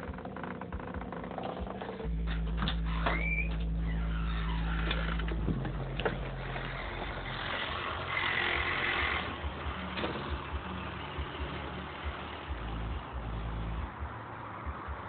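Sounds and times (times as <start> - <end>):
deep bass from subwoofers: 0.0 - 14.0.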